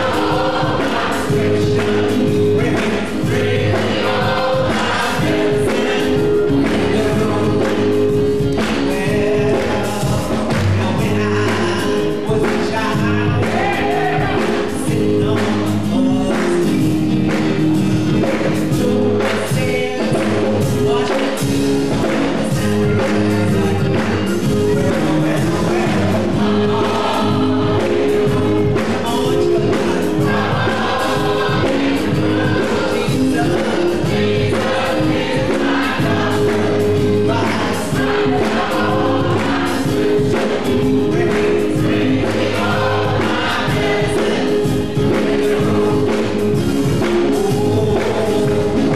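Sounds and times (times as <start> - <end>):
gospel choir singing: 0.0 - 48.9
keyboard chords: 0.0 - 48.9
steady drum beat: 0.0 - 48.9.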